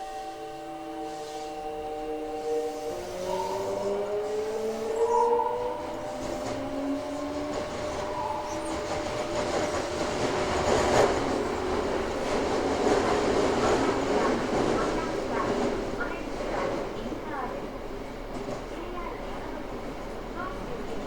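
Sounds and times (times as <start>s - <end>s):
train inverter stepped tones: 0.0s - 21.0s
train wheels rolling on rails: 1.0s - 21.0s.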